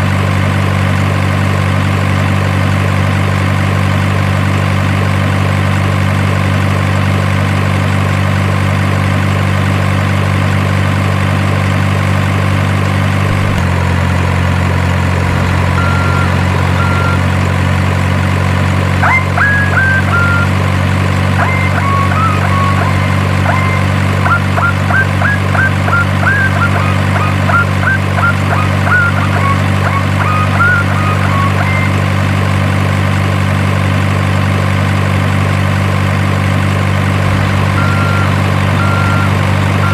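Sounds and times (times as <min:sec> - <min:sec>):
model engine idling drone: 0:00.0 - 0:39.9.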